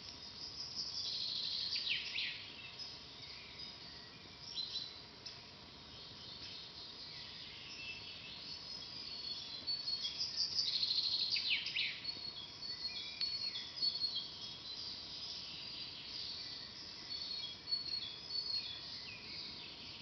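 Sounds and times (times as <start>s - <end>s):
faint steady hiss: 0.0s - 20.0s
songbirds singing: 0.0s - 20.0s.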